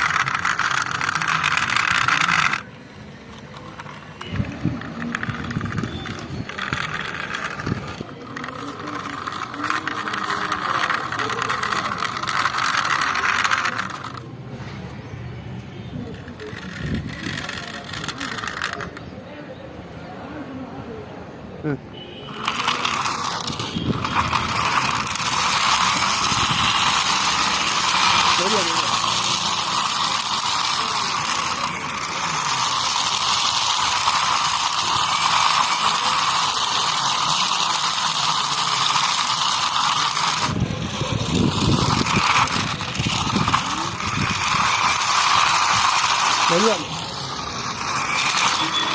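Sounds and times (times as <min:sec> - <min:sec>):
toy vehicle gears whirring: 0:00.0 - 0:20.5, 0:21.7 - 0:48.9.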